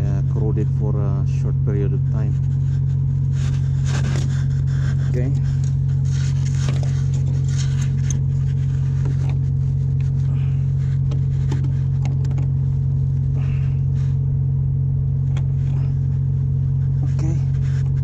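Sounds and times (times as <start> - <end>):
low machinery drone: 0.0 - 18.0.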